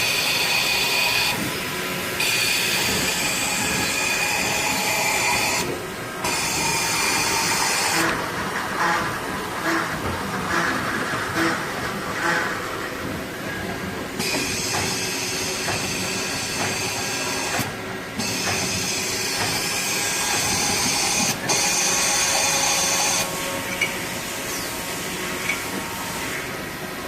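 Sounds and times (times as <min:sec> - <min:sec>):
lathe mechanical hum and hiss: 0:00.0 - 0:27.0.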